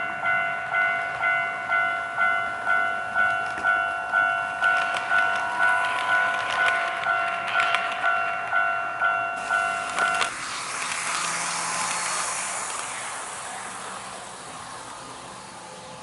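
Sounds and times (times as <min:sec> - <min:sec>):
electronic crossing alarm ringing: 0:00.0 - 0:15.4
passing train hissing rush: 0:00.0 - 0:16.0.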